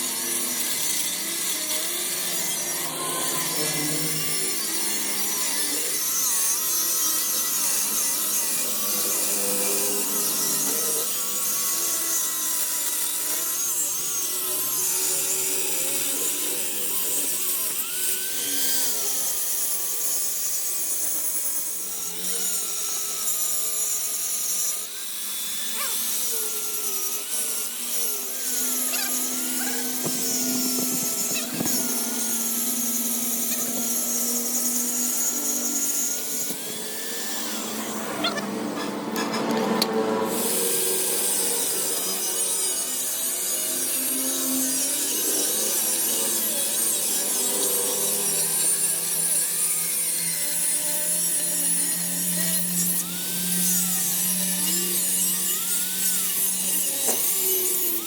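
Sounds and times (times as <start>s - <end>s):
power tool grinding steel: 0.0s - 58.0s.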